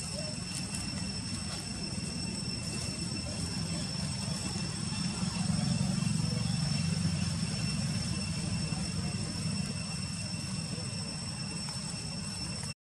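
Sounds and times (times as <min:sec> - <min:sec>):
low droning rumble: 0:00.0 - 0:12.7.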